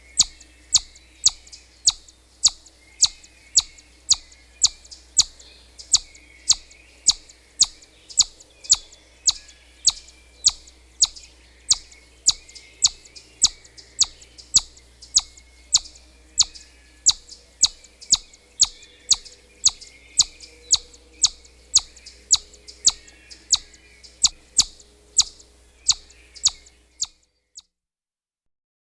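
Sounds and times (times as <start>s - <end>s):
chipmunk chip calls: 0.0s - 27.2s.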